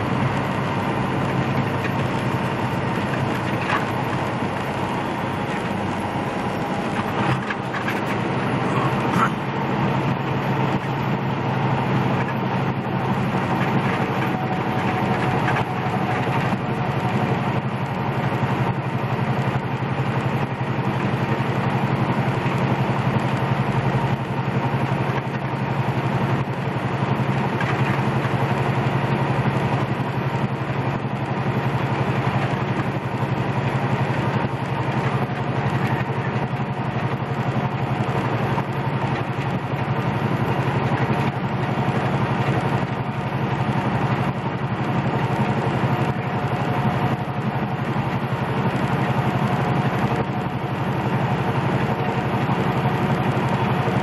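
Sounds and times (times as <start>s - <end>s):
diesel engine droning: 0.0s - 54.0s
road noise: 0.0s - 54.0s.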